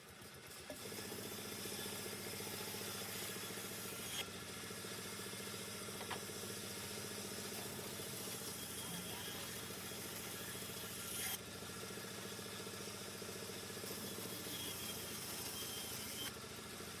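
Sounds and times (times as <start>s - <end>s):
woodworking machine motor running: 0.0s - 17.0s.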